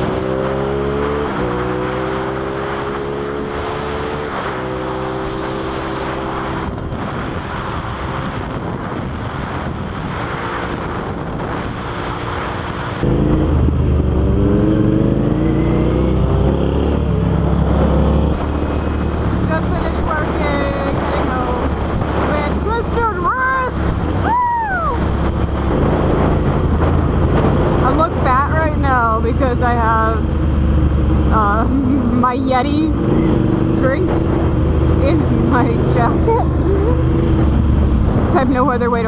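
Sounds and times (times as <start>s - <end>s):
motorcycle engine accelerating: 0.0s - 39.0s
wind rush: 0.0s - 39.0s.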